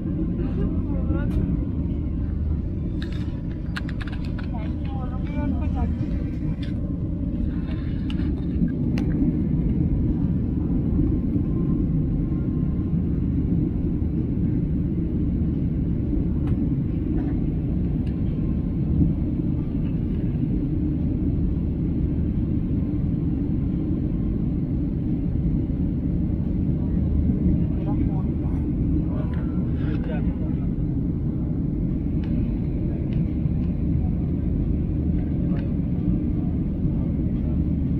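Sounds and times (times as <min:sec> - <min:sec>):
airliner cabin rumble: 0:00.0 - 0:37.9.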